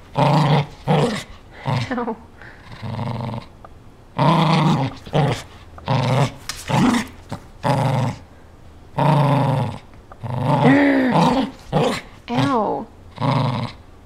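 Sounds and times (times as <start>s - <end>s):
small dog growling in play: 0.0s - 8.3s, 9.0s - 13.8s.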